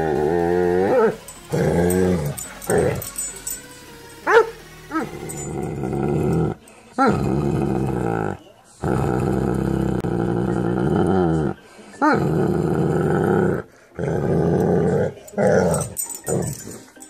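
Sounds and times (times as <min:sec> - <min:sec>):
dog growling: 0:00.0 - 0:03.4, 0:04.3 - 0:17.0.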